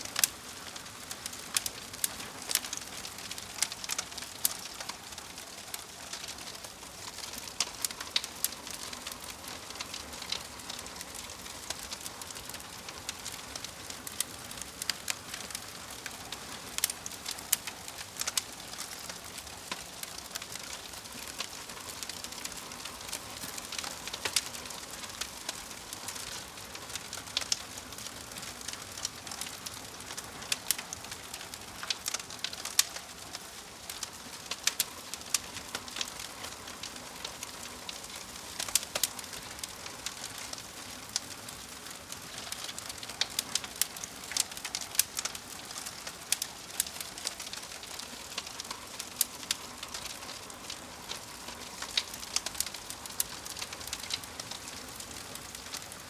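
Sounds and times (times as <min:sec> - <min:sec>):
log fire crackling and hissing: 0:00.0 - 0:56.0.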